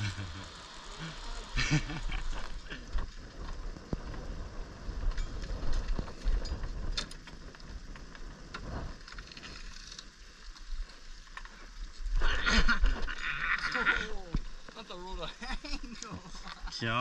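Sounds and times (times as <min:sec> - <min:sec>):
wind rumbling on microphone: 0:00.0 - 0:16.7.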